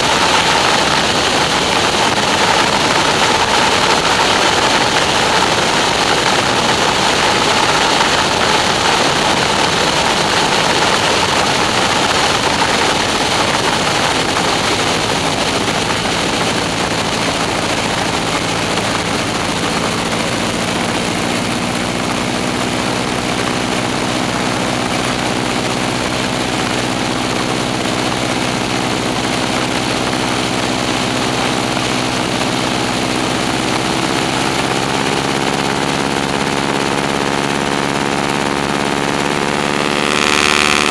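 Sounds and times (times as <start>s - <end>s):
propeller plane engine humming: 0.0s - 40.9s.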